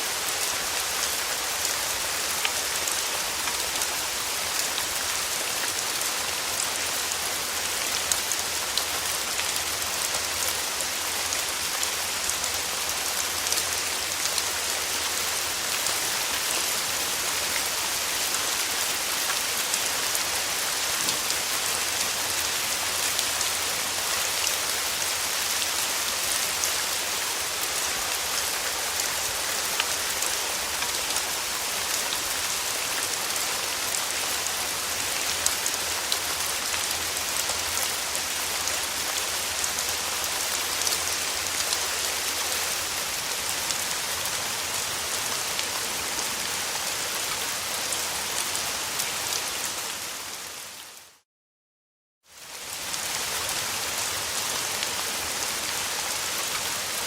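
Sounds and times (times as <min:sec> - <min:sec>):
rain pattering on surfaces: 0:00.0 - 0:49.9.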